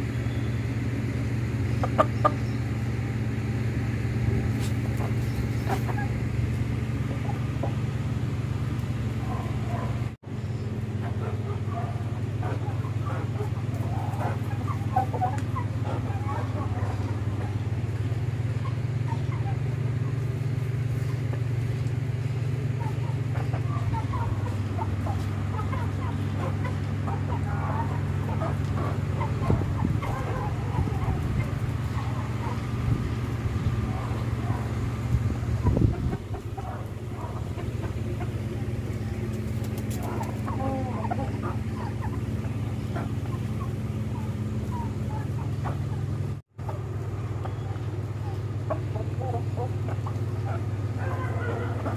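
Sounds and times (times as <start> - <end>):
chickens calling: 0.0 - 51.9
engine running steadily: 0.0 - 51.9
low machine hum: 0.0 - 51.9.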